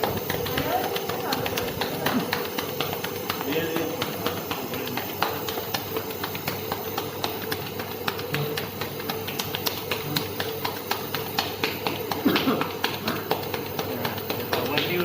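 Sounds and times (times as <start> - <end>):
rapid clicking taps: 0.0 - 15.0
steady low hum: 0.0 - 15.0.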